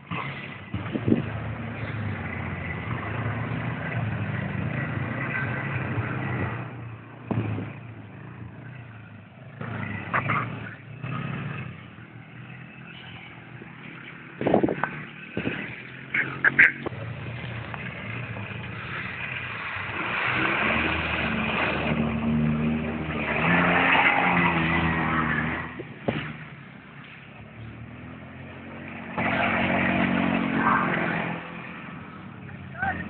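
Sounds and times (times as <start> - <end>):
quad bike engine revving: 0.0 - 26.5, 27.5 - 33.0.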